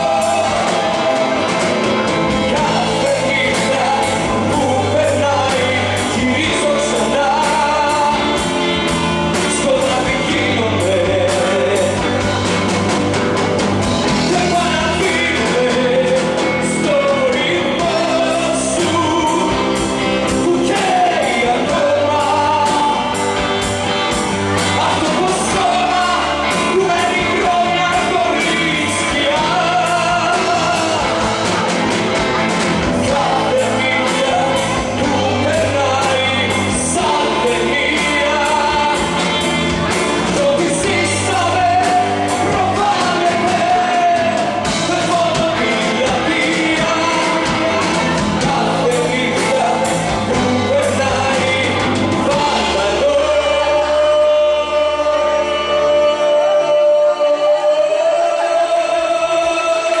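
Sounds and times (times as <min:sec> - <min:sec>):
men singing: 0:00.0 - 0:12.3, 0:14.0 - 1:00.0
steady drum beat: 0:00.0 - 0:54.2
bass guitar: 0:00.0 - 1:00.0
electric and acoustic guitars: 0:00.0 - 1:00.0.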